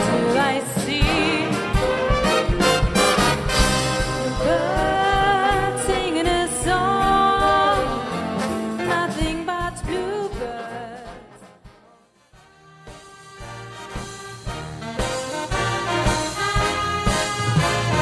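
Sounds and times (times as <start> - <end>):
big band playing held chords: 0.0 - 18.0.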